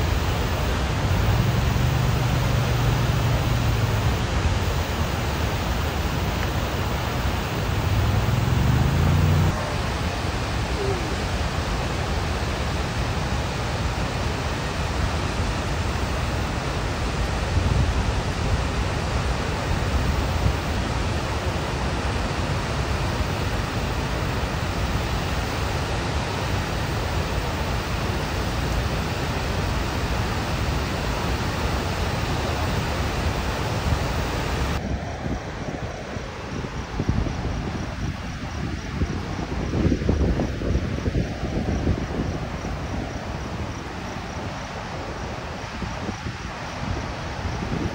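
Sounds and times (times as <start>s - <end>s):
river water rushing: 0.0s - 36.9s, 42.3s - 47.9s.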